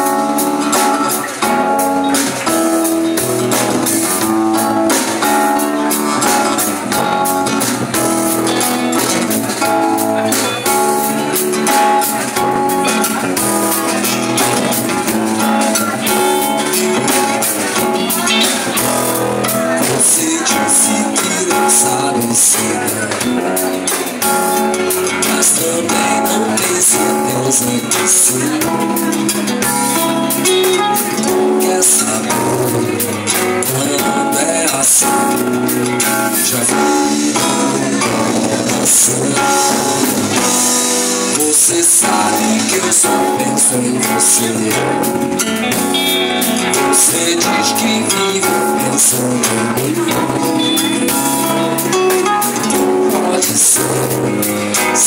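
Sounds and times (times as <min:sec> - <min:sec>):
drum kit with cymbals: 0:00.0 - 0:55.0
electric guitar: 0:00.0 - 0:55.0
strummed acoustic guitar: 0:00.0 - 0:55.0.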